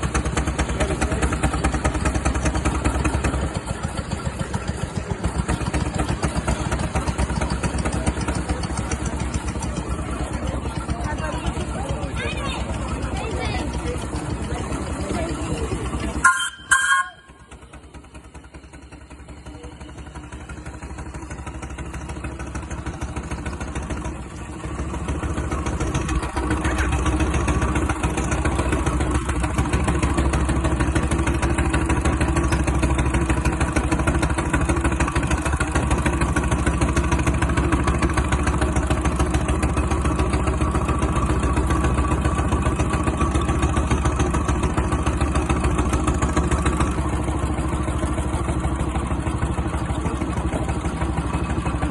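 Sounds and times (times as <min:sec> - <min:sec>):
small engine running: 0:00.0 - 0:51.9.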